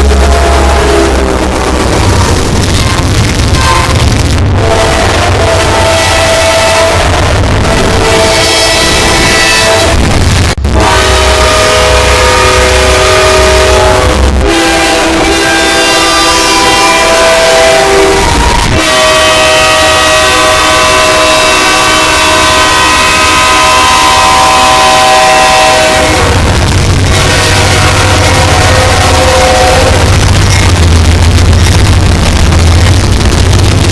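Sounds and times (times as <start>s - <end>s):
distorted train air horns: 0.0s - 33.9s.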